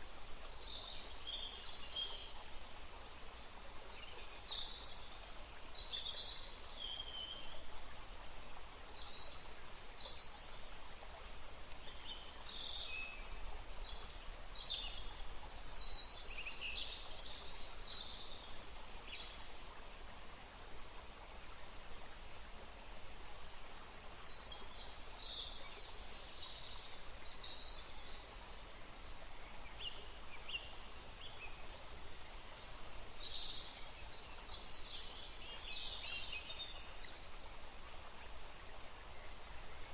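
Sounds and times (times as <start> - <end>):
wind in trees: 0.0 - 39.9.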